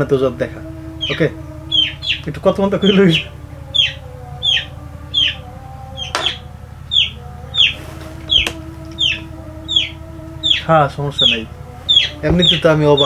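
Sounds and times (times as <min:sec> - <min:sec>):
steady low hum: 0:00.0 - 0:13.0
chick peeping: 0:01.0 - 0:13.0.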